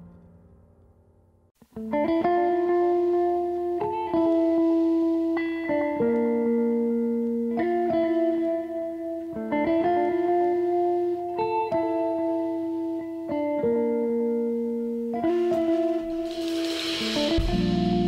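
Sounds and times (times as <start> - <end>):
slow plucked guitar music: 1.6 - 18.0.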